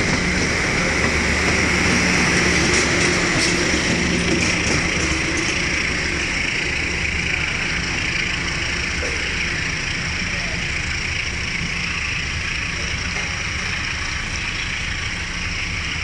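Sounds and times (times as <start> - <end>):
train rumble pulling away: 0.0 - 16.0.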